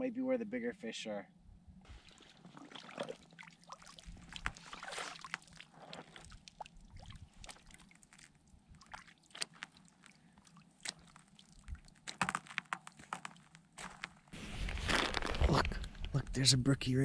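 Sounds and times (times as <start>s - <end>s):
boots squishing on wet ice: 1.9s - 15.8s.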